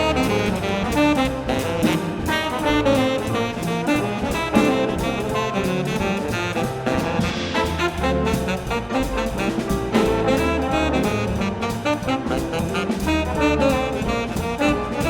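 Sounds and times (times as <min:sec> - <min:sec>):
bass: 0:00.0 - 0:15.0
drum kit beat: 0:00.0 - 0:15.0
piano: 0:00.0 - 0:15.0
saxophone: 0:00.0 - 0:15.0
trombone: 0:00.0 - 0:15.0.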